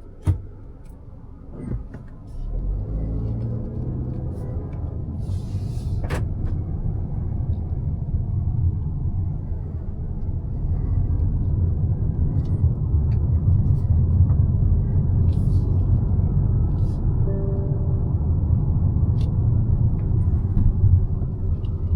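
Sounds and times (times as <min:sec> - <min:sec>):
car engine and road noise: 0:00.0 - 0:21.9.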